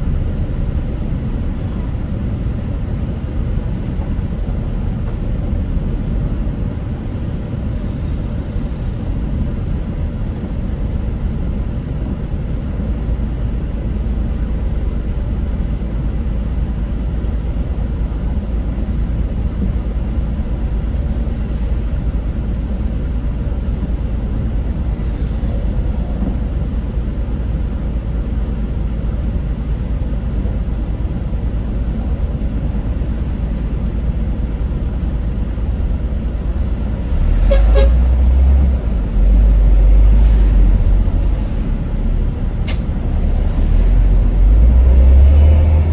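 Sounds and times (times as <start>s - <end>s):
car engine from inside cabin: 0.0s - 45.9s.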